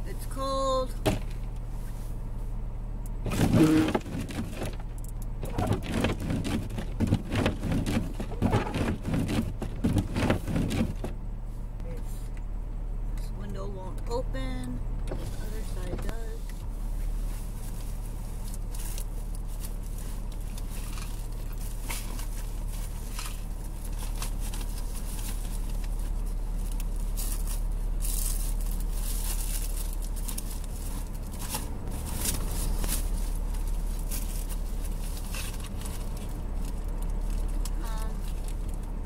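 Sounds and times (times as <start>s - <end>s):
car engine idling: 0.0s - 39.0s
rustling and crinkling: 1.0s - 12.3s, 15.1s - 39.0s.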